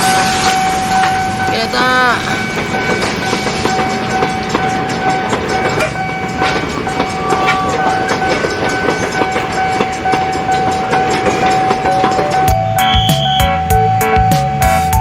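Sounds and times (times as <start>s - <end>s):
train wheels clattering over rails: 2.5s - 14.9s.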